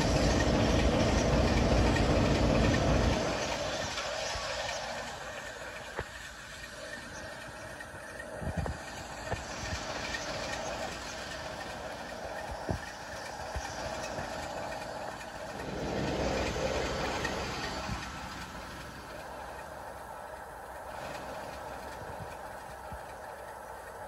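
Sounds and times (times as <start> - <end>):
diesel locomotive engine rumble: 0.0 - 24.0
wheels clanking over rail joints: 0.0 - 24.0.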